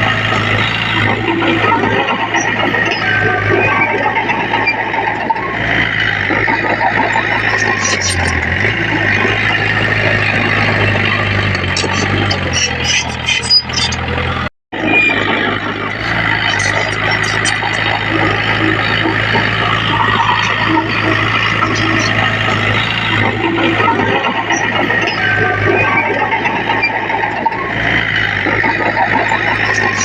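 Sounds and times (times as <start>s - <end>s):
diesel engines of earthmoving machines: 0.0s - 30.0s.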